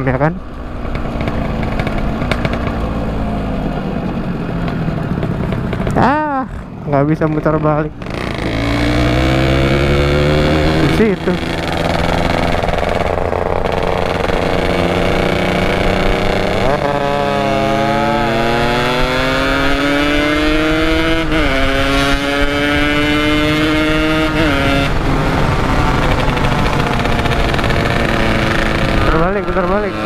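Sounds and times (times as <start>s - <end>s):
two-stroke motorcycle accelerating: 0.0s - 30.0s.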